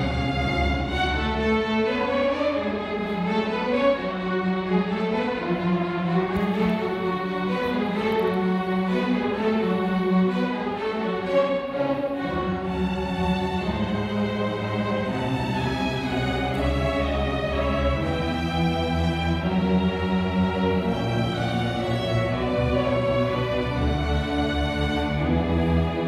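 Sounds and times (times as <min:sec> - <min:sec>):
string orchestra playing: 0:00.0 - 0:26.0.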